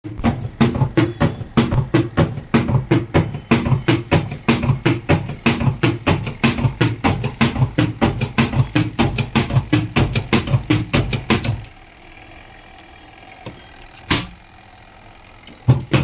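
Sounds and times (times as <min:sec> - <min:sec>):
washing machine knocking: 0:00.0 - 0:11.9, 0:12.8 - 0:14.6, 0:15.4 - 0:16.0.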